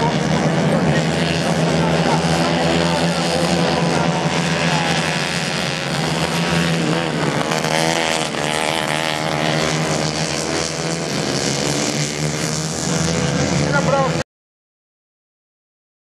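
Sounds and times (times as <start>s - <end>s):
kart engines revving: 0.0s - 14.2s.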